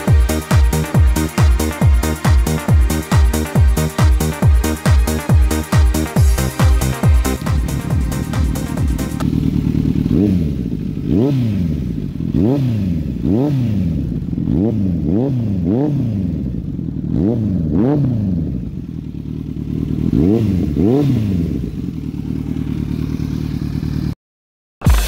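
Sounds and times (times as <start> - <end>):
motorcycle engine revving: 0.0 - 24.2.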